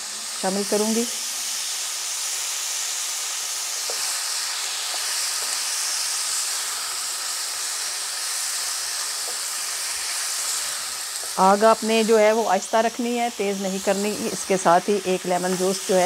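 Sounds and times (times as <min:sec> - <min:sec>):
mince sizzling in a pan: 0:00.0 - 0:16.0.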